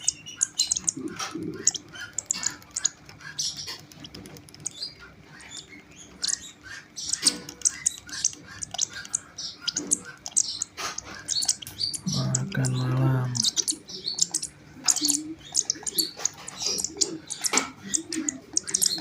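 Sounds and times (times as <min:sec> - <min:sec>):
baby birds cheeping: 0:00.0 - 0:19.0.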